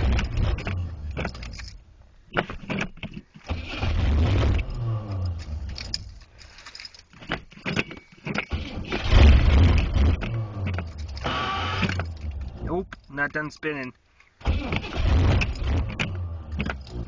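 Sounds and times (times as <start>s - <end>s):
car engine cranking: 0.0s - 13.2s, 14.3s - 17.0s.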